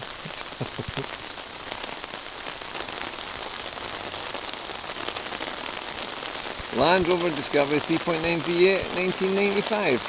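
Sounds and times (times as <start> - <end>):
heavy rain on an umbrella: 0.0 - 10.0.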